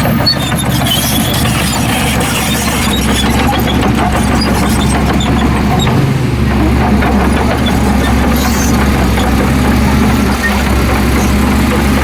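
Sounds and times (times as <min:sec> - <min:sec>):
heavy diesel machinery running: 0:00.0 - 0:12.0
knocks and clatter: 0:00.0 - 0:12.0.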